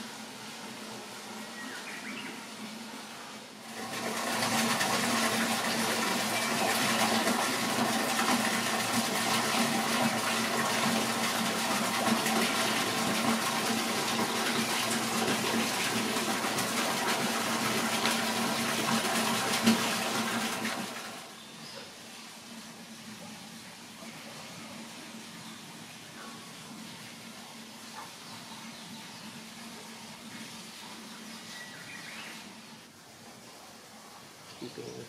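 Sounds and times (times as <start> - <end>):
rush of falling water: 0.0 - 35.0.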